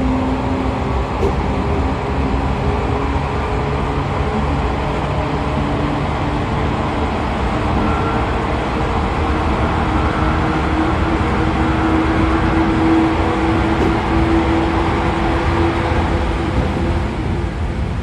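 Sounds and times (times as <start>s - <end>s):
traction motor hum: 0.0s - 17.9s
wheel and rail rumble: 0.0s - 18.0s.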